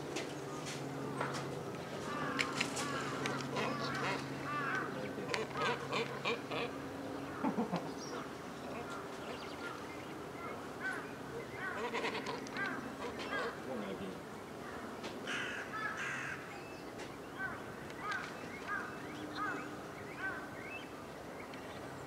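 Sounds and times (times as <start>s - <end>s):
birds calling and chirping: 0.0s - 22.0s
low steady hum: 0.0s - 22.0s.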